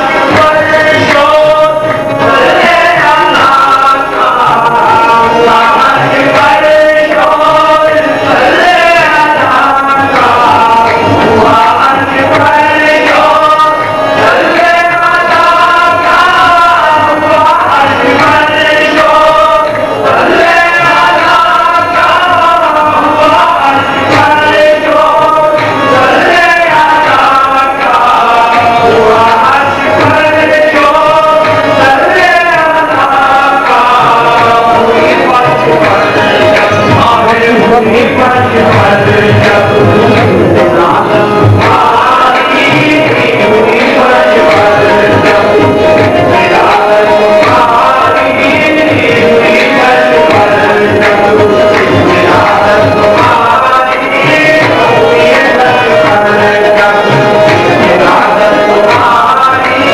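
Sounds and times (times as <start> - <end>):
song with singing voice: 0.0 - 59.9.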